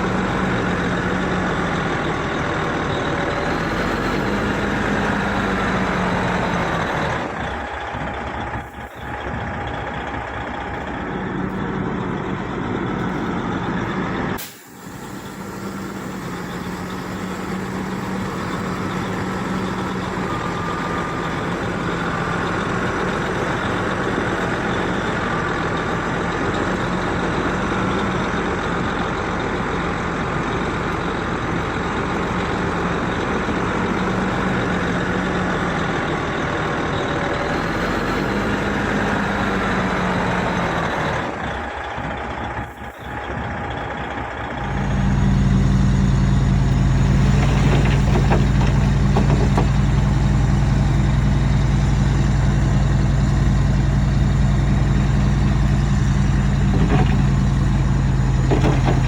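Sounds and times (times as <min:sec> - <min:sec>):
diesel earth-moving machinery running: 0:00.0 - 0:59.0
steady engine drone: 0:00.0 - 0:59.0.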